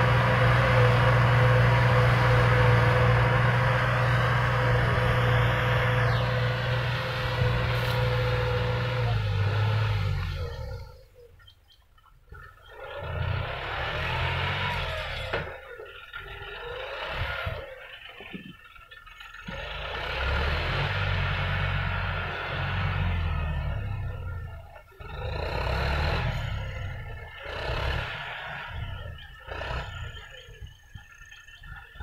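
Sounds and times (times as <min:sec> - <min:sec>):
tractor diesel engine droning: 0:00.0 - 0:32.0.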